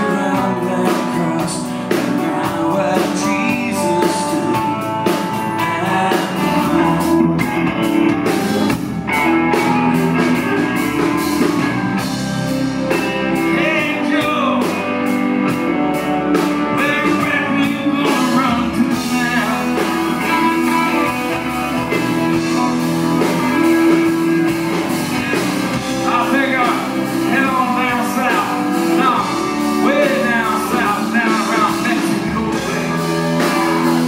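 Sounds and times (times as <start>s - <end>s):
man singing lead: 0.0s - 8.5s, 9.6s - 34.0s
bass: 0.0s - 34.0s
drums: 0.0s - 34.0s
electric guitars: 0.0s - 34.0s.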